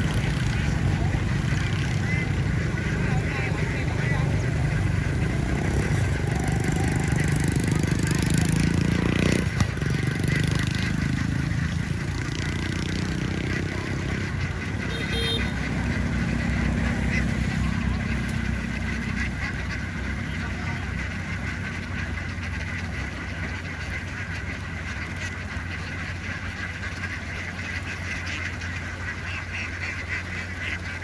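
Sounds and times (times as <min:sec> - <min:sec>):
ducks calling: 0:00.0 - 0:31.0
vehicle engine running: 0:00.0 - 0:31.0.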